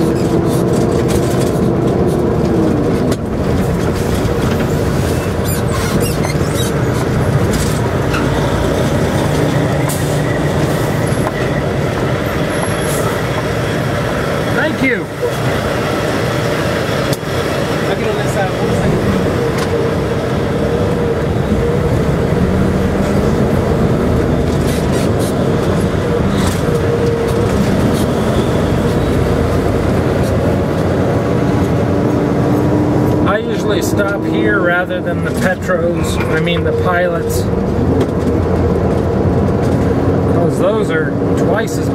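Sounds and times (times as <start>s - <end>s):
truck engine and road noise: 0.0s - 41.9s.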